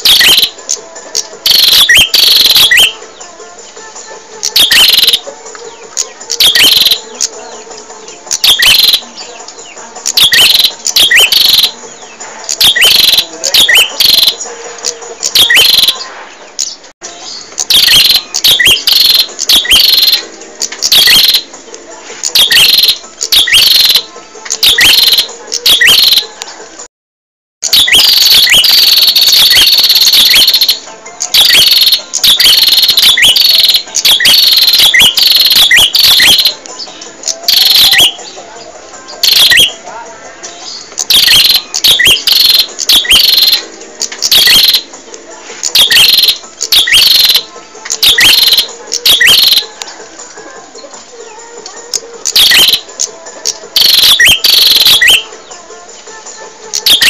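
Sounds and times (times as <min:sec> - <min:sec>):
bird chirping and trilling: 0:00.0 - 0:03.1, 0:04.4 - 0:21.5, 0:22.2 - 0:26.3, 0:27.6 - 0:38.4, 0:39.0 - 0:39.8, 0:40.5 - 0:44.9, 0:45.6 - 0:49.8, 0:52.2 - 0:55.5, 0:56.8 - 0:57.0.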